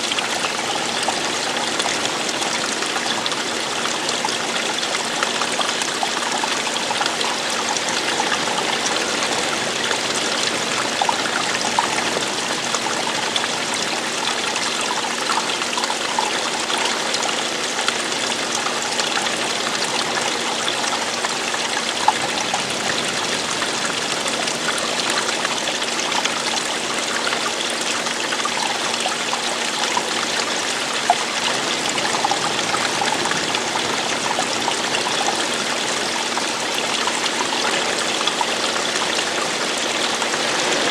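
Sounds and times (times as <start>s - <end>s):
running water splashing: 0.0s - 40.9s.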